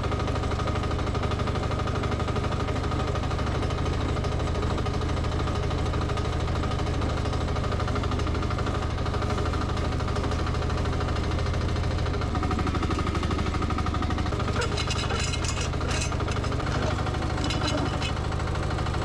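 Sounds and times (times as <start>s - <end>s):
mini excavator engine running: 0.0s - 19.0s.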